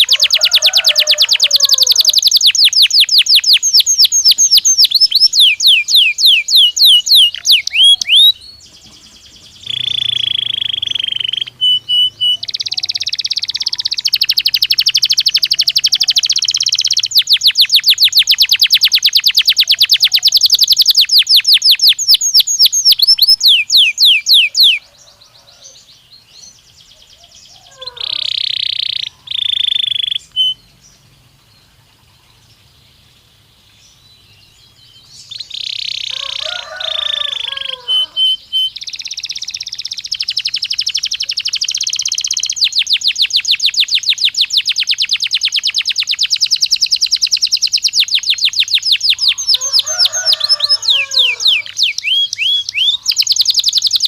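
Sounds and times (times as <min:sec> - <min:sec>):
canary singing fast trills: 0:00.0 - 0:54.0.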